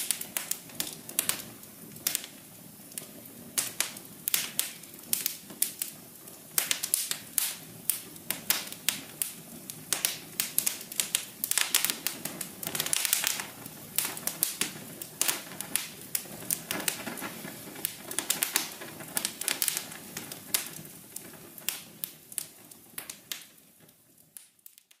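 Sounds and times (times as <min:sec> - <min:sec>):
rush of flame: 0:00.0 - 0:23.7
fire crackling and popping: 0:00.0 - 0:25.0.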